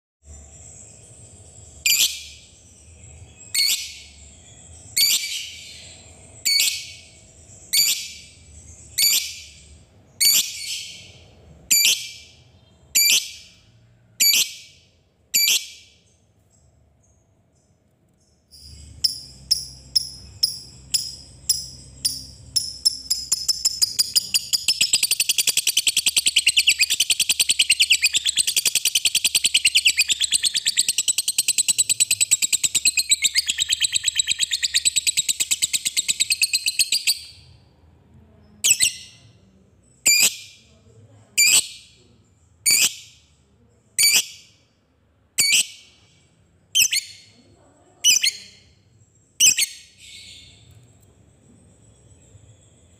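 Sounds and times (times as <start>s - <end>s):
lovebird chirping and chattering: 0.3s - 37.6s, 38.4s - 40.7s, 41.4s - 44.7s, 45.3s - 46.1s, 46.7s - 52.9s.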